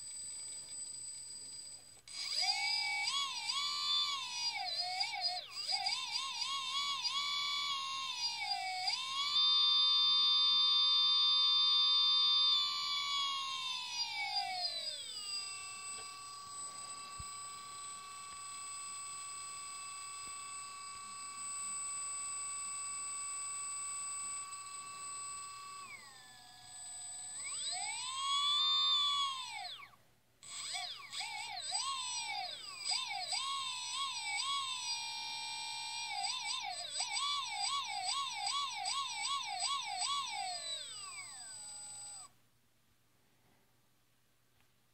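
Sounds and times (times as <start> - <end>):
electric motor whine: 0.0 - 42.3.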